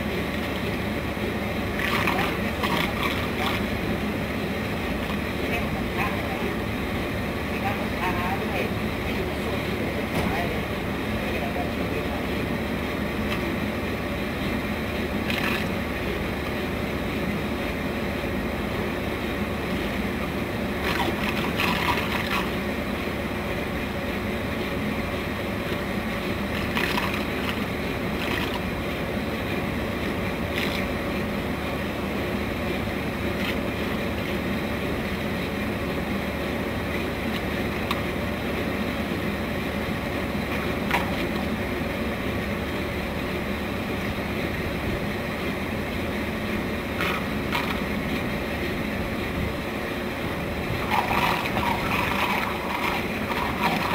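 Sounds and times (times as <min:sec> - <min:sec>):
faint motor hum: 0:00.0 - 0:53.9
churning splashing water: 0:00.1 - 0:10.8, 0:11.6 - 0:16.9, 0:18.7 - 0:35.6, 0:39.7 - 0:43.2, 0:46.1 - 0:53.9.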